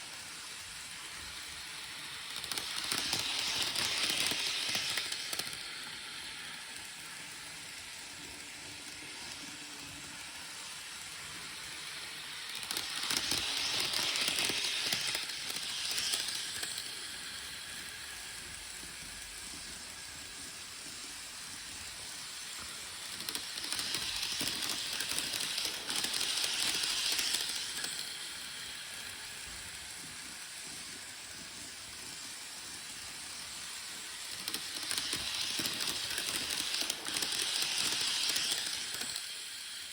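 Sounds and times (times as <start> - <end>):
model train rolling on track: 0.0 - 39.9.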